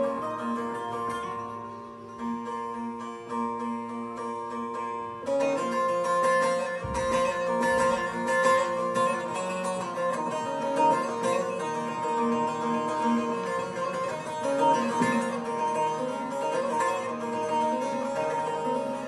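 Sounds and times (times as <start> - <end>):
plucked string instrument: 0.0 - 19.0.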